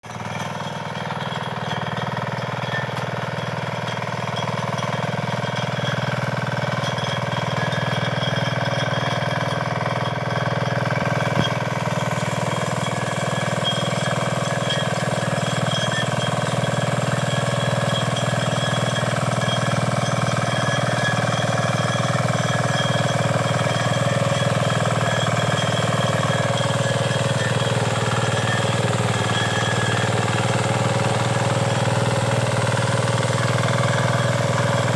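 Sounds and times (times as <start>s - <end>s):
power tiller engine running: 0.0s - 34.9s.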